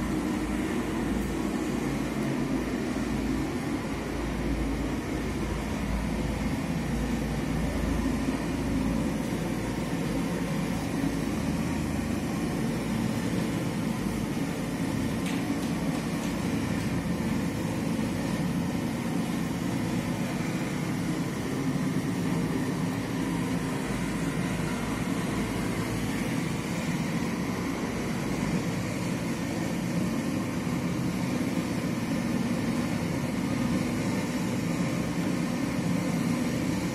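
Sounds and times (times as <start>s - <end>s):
heat cannon blowing hot air: 0.0s - 36.9s.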